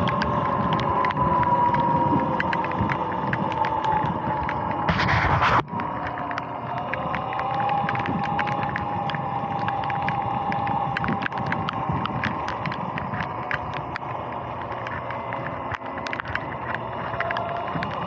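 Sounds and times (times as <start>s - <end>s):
sharp irregular ticks: 0.0s - 18.0s.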